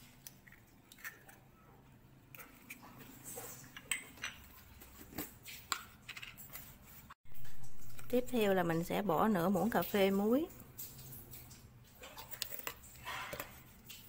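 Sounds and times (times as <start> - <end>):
kitchen utensils clinking: 2.4 - 14.0.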